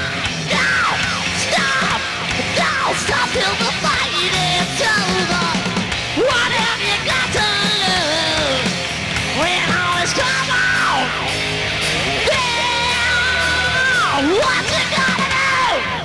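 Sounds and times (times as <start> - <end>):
live hard rock band: 0.0 - 16.0.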